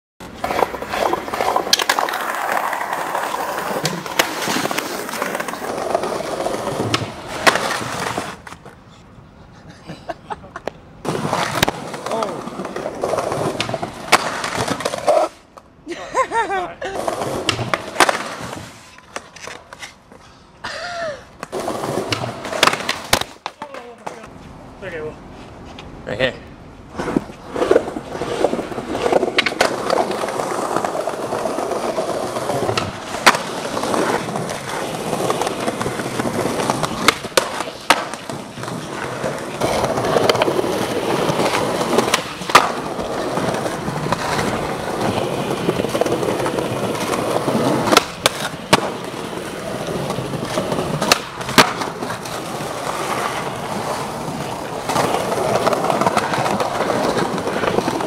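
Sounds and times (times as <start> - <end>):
skateboard clacks: 0.2 - 8.8, 10.5 - 15.7, 17.0 - 20.2, 21.3 - 24.3, 27.0 - 58.0
skateboard wheels rolling on concrete: 0.2 - 58.0.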